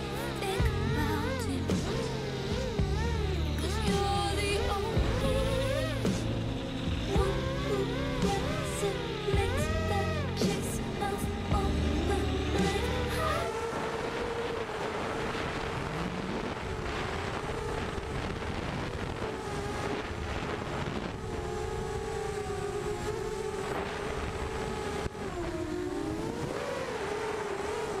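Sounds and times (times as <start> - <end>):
quadcopter motors buzzing: 0.0 - 28.0
wind noise: 0.0 - 28.0.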